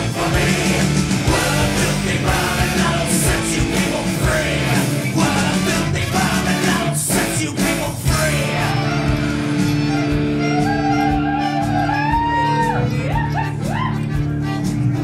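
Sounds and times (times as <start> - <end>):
loud music with low beat: 0.0 - 15.0.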